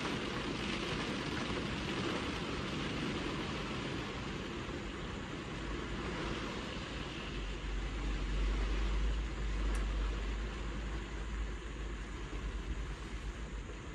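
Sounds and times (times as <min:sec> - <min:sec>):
rain on car windscreen: 0:00.0 - 0:13.9
wind gusting against car: 0:00.0 - 0:13.9.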